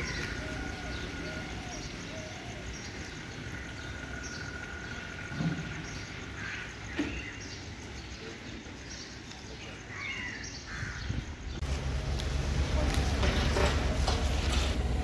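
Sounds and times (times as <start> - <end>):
street background noise: 0.0 - 15.0.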